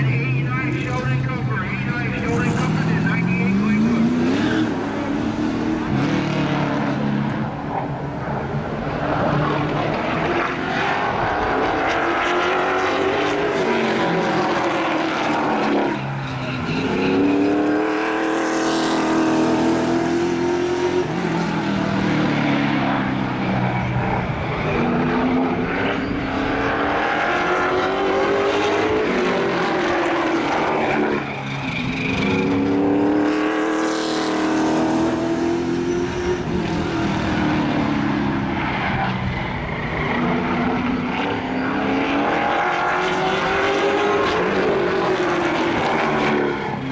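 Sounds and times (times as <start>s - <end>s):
race car engines: 0.0s - 46.9s.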